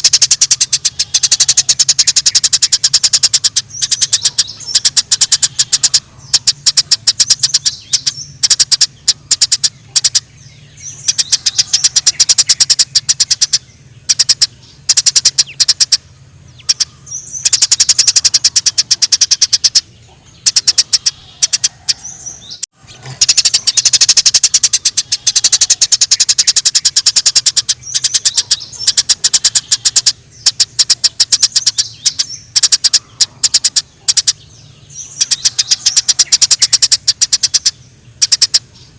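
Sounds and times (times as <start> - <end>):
sparrows chirping: 0.0 - 38.9
steady low hum: 0.0 - 38.9.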